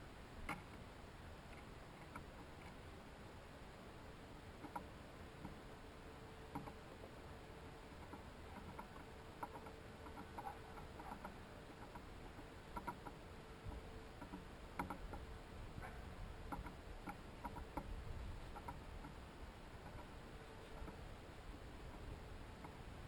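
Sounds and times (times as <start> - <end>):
faint steady hum: 0.0 - 23.0
birds pecking at seed feeder: 1.5 - 3.0, 4.5 - 5.8, 6.4 - 23.0.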